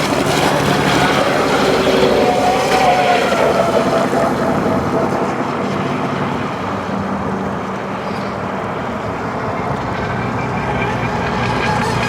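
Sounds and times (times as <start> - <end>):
rushing water: 0.0 - 10.6
electric model speedboat running: 0.0 - 12.0
wind noise: 0.0 - 12.0.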